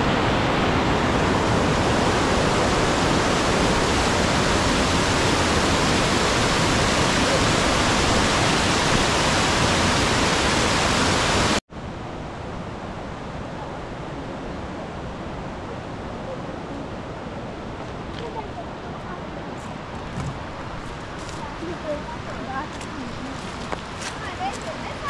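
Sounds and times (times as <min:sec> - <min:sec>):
outdoor background noise: 0:00.0 - 0:25.0
water rushing over weir: 0:00.0 - 0:25.0.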